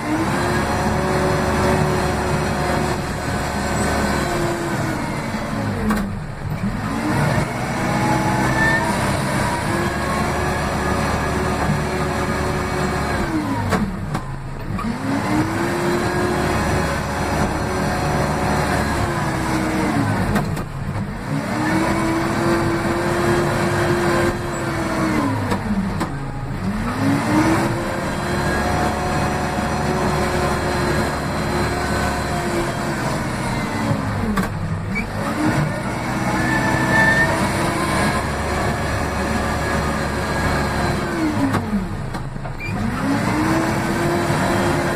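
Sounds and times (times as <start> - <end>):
diesel engine at high revs: 0.0 - 44.9.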